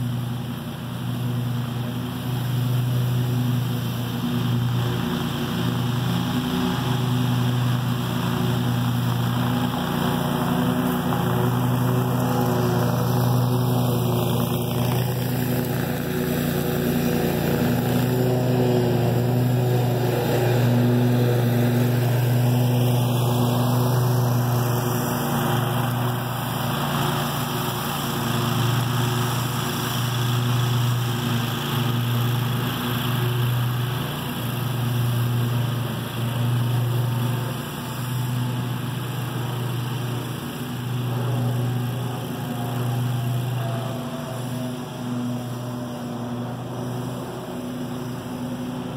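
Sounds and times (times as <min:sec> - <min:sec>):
mower engine running: 0:00.0 - 0:48.9.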